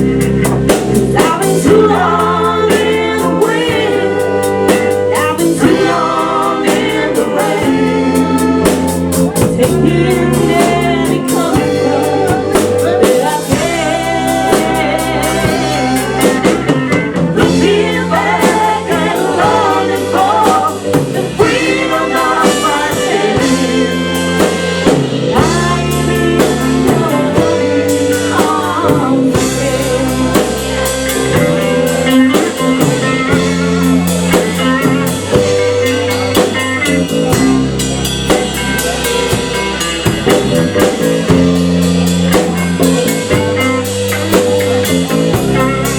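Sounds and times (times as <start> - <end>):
drums: 0.0 - 45.9
guitar: 0.0 - 45.9
live band playing a song: 0.0 - 45.9
moving bass line: 0.0 - 45.9
person singing: 0.9 - 37.6, 38.3 - 45.9.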